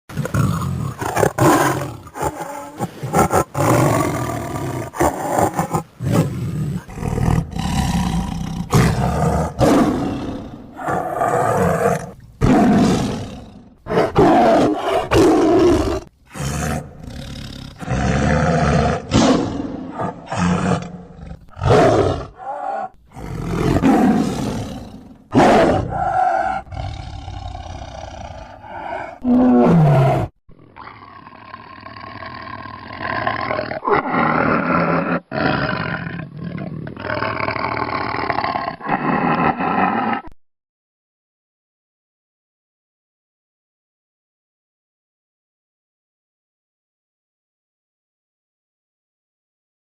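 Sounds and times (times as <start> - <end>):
tiger roaring and growling: 0.1 - 40.4.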